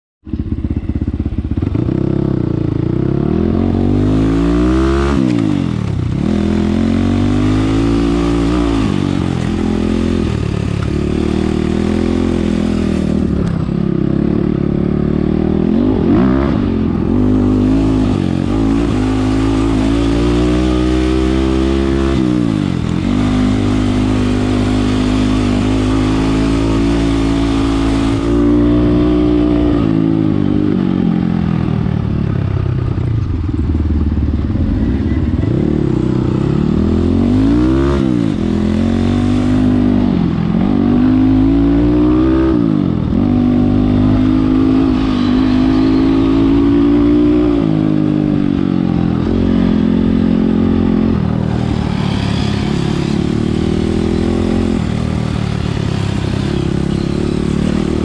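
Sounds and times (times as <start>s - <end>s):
dirt bike engine revving: 0.8s - 31.8s, 34.7s - 58.0s.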